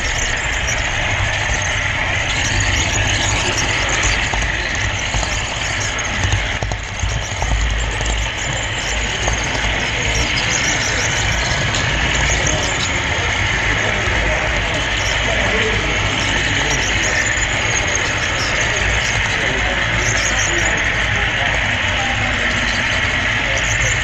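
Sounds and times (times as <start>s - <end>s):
faint rail joint clicks: 0.0s - 24.0s
model train wheels rumbling: 0.0s - 24.0s.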